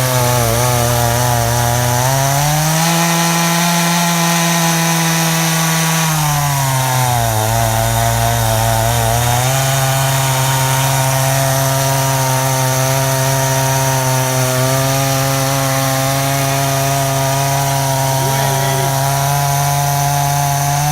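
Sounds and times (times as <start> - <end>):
chainsaw cutting a log: 0.0 - 20.9.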